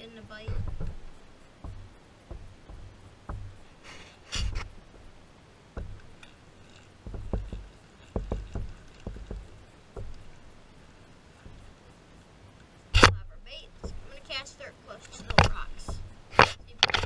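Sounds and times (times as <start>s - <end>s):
knocks and thumps on a kayak: 0.0s - 12.1s, 12.9s - 14.5s, 15.1s - 17.0s.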